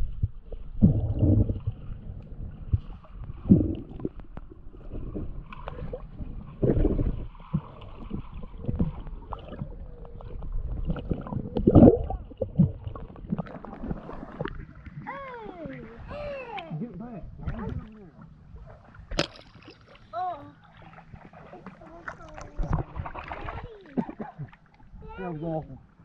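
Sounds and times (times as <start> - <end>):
muffled water sloshing: 0.0 - 26.0.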